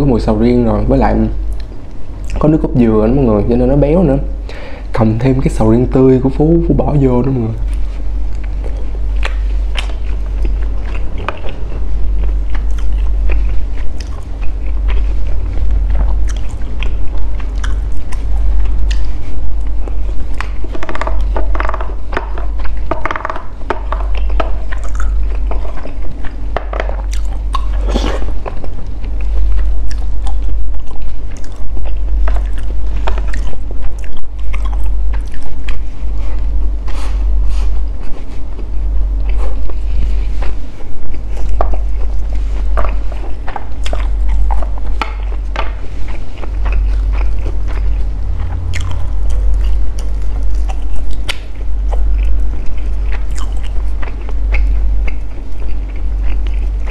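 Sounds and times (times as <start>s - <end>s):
steady low rumble: 0.0s - 56.9s
close chewing mouth sounds: 7.3s - 56.9s.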